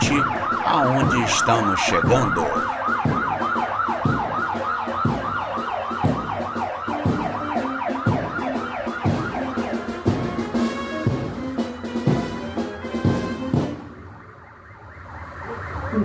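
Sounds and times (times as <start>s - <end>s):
low drum beat: 0.0s - 13.8s
police sirens yelping: 0.0s - 16.0s.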